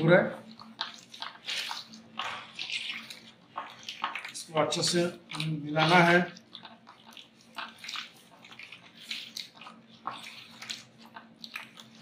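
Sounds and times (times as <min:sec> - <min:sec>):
hand squelching wet marinade: 0:00.0 - 0:12.0.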